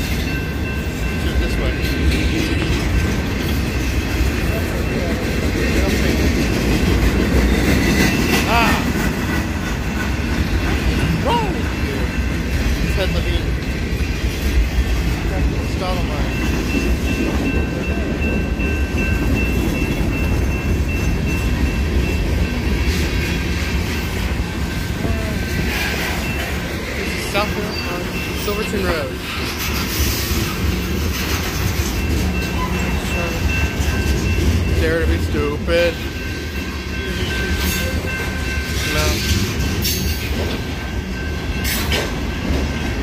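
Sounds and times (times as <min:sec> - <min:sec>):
crossing bell ringing: 0:00.0 - 0:43.0
freight train wheels rumbling: 0:00.0 - 0:43.0.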